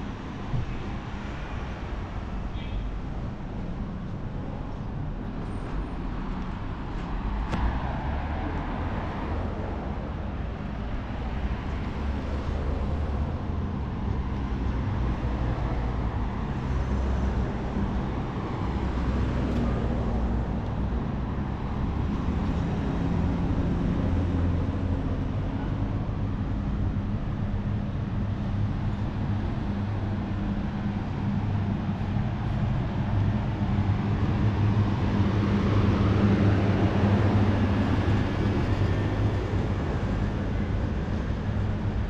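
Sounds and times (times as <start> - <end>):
street traffic rumble: 0.0 - 42.0.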